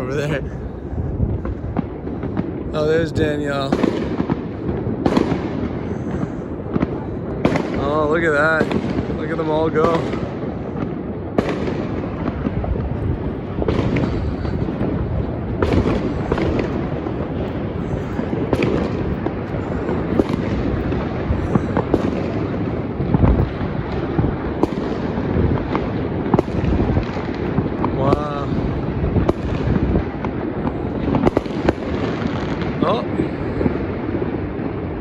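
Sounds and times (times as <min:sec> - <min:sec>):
fireworks rumble of bangs: 0:00.0 - 0:35.0
sharp nearby firework cracks: 0:01.3 - 0:35.0.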